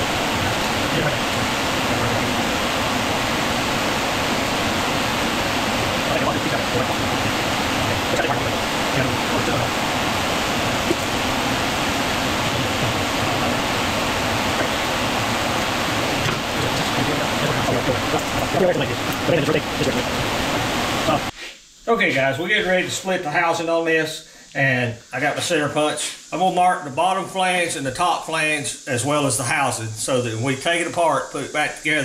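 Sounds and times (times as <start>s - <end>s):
fan running: 0.0s - 32.0s.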